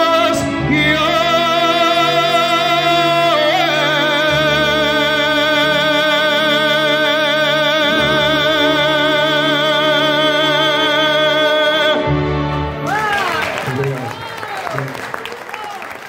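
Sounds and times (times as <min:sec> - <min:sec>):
man singing a long high note: 0:00.0 - 0:13.1
instrumental accompaniment: 0:00.0 - 0:14.0.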